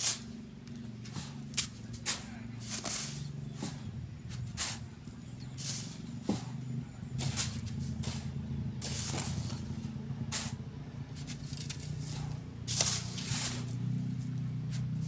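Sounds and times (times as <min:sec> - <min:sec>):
sand being shovelled: 0:00.0 - 0:00.3, 0:01.0 - 0:15.0
engine running: 0:00.0 - 0:15.0.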